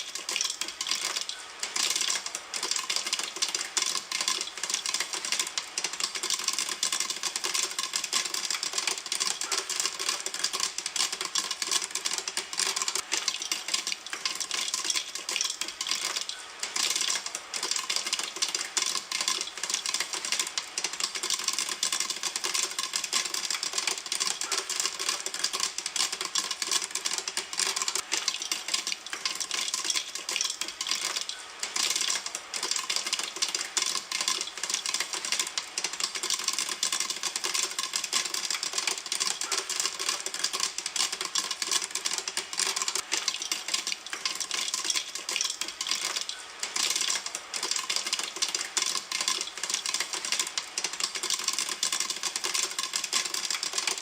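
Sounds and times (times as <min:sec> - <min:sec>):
popcorn popping in a pan: 0:00.0 - 0:54.0.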